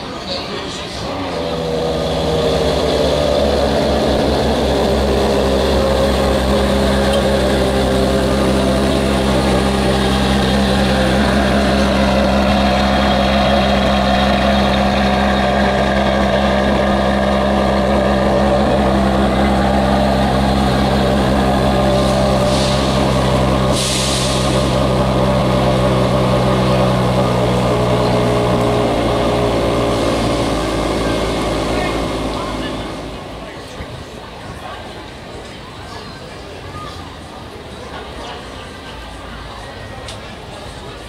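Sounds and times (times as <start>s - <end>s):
car engine idling: 0.0s - 35.3s.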